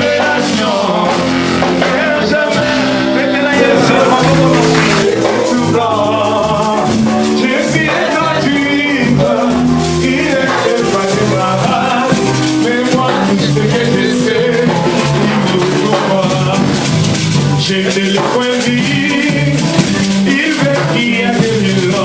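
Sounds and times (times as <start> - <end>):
worship band music: 0.0 - 22.0
plucked guitar: 2.3 - 22.0
shaker rattle: 3.5 - 22.0.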